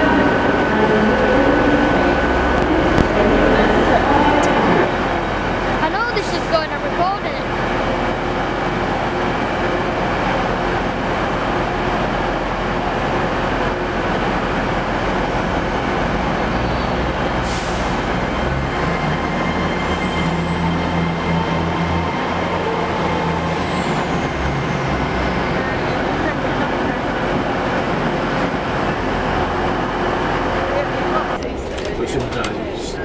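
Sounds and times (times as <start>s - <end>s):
train engine drone: 0.0s - 33.0s.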